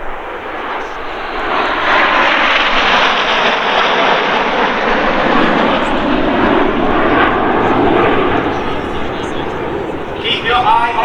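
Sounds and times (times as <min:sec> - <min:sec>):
jet aircraft flying overhead: 0:00.0 - 0:11.0.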